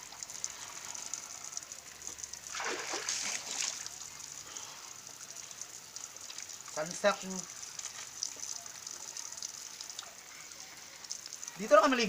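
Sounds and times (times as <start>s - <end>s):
water splashing and pouring: 0.0s - 12.0s.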